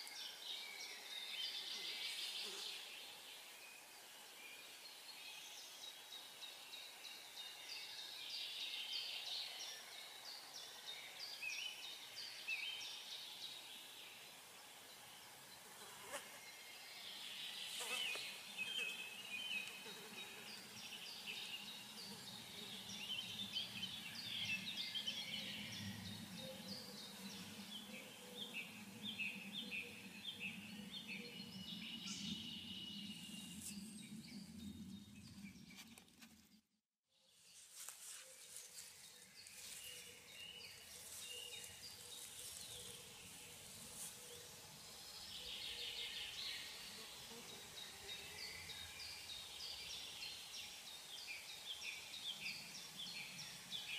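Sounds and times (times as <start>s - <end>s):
songbirds chirping and singing: 0.0s - 36.3s, 37.6s - 53.9s.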